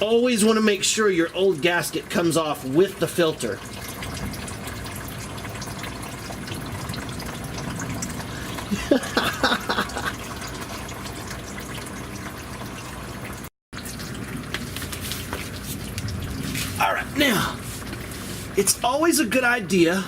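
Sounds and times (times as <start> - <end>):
oil dripping into pan: 0.2 - 16.8.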